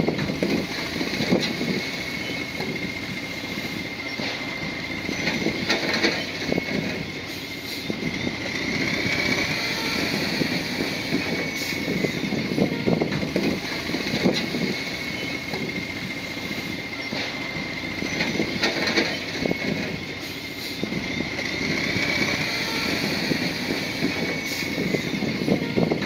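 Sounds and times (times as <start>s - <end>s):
heavy diesel engine working: 0.0s - 26.0s.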